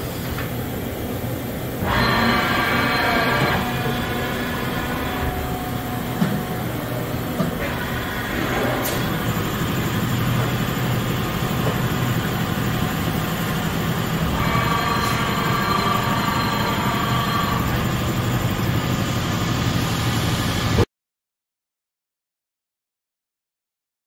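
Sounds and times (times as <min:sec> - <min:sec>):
shop machinery humming: 0:00.0 - 0:20.9.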